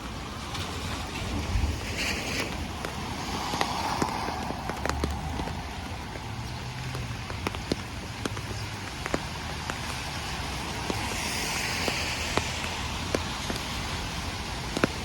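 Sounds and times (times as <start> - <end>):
rain falling: 0.0 - 15.0
wind rumble on microphone: 0.0 - 15.0
sharp taps of raindrops: 0.3 - 15.0.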